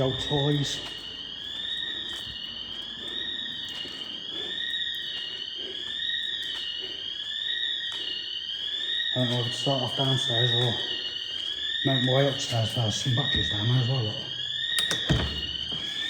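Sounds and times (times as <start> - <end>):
alarm sounder wailing: 0.0 - 16.0.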